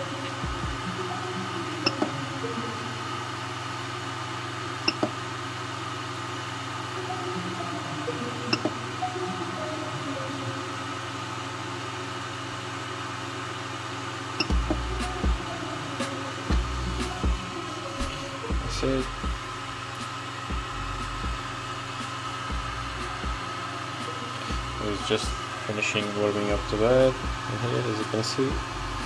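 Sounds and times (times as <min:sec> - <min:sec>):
cooling fans humming: 0:00.0 - 0:29.0.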